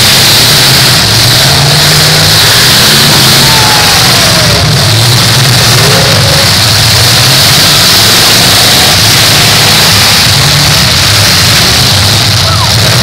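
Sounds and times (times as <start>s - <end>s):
car engines running and revving: 0.0s - 13.0s.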